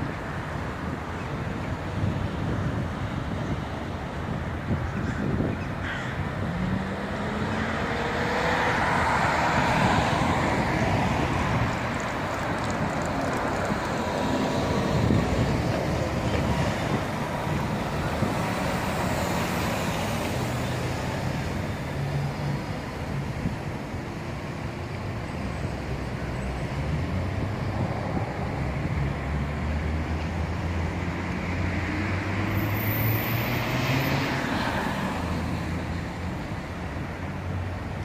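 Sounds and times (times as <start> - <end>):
cars and buses driving past: 0.0 - 38.0.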